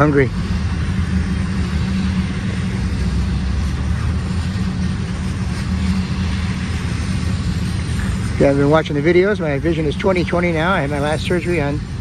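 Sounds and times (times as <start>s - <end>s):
engine drone: 0.5s - 12.0s.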